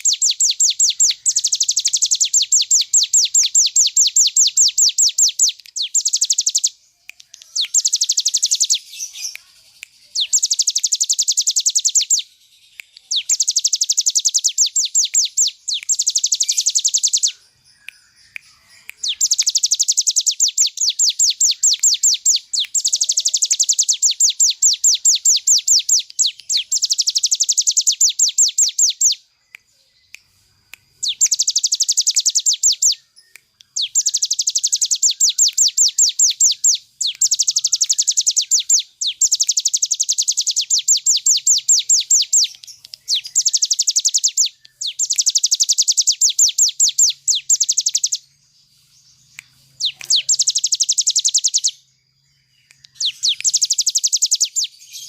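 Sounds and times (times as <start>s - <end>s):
bird singing rapid trills: 0.0s - 55.0s.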